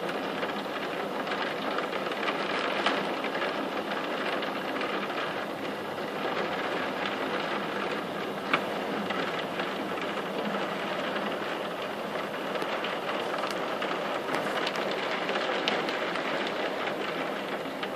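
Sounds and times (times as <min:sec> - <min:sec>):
hailstones ticking: 0:00.0 - 0:17.9
heavy rain rushing: 0:00.0 - 0:17.9.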